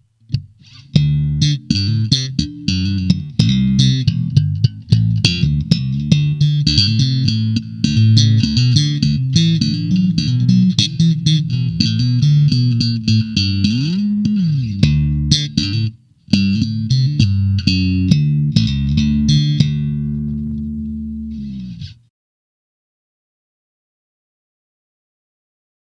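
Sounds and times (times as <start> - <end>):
electric bass plucked notes: 0.4 - 22.0.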